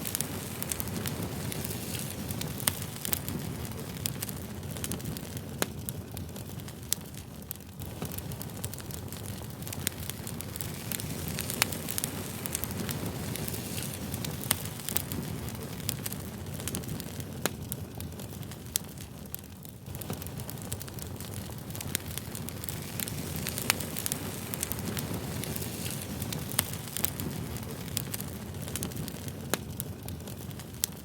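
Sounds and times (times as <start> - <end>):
fire crackles and pops: 0.0 - 31.0
wood fire rushing: 0.0 - 31.0.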